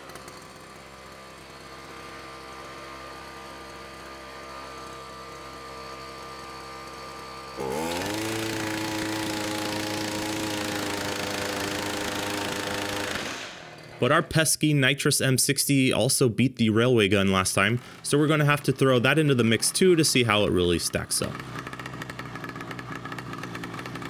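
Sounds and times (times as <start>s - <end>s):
chainsaw engine idling and revving: 0.0s - 14.3s, 16.9s - 24.0s.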